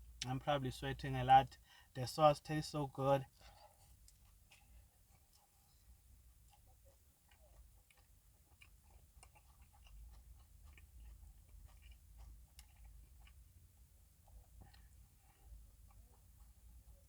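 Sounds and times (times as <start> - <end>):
man chewing food: 3.3 - 17.0.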